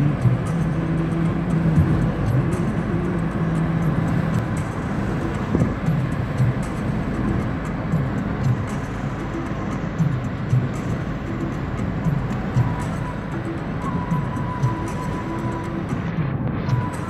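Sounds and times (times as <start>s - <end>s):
vehicle interior rumble: 0.0s - 17.0s.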